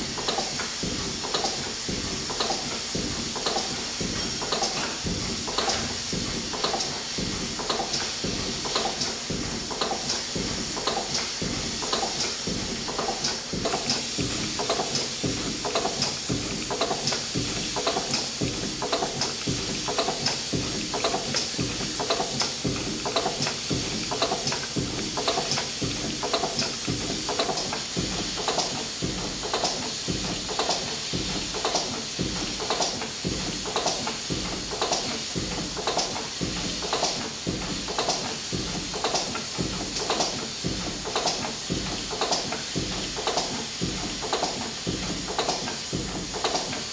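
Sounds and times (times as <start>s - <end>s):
steam engine running: 0.0s - 46.9s.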